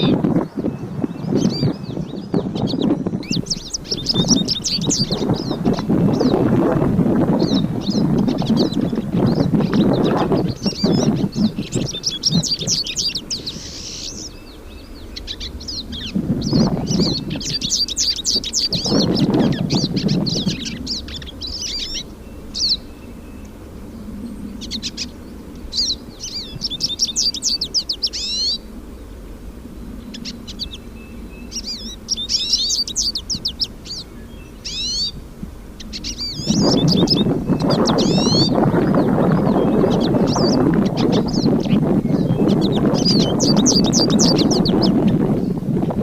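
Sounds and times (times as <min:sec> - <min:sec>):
birds twittering and trilling: 0:00.0 - 0:46.0.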